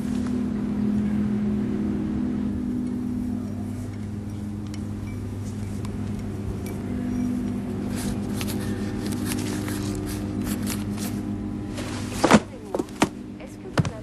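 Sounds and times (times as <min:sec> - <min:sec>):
low drone with held tones: 0:00.0 - 0:13.8.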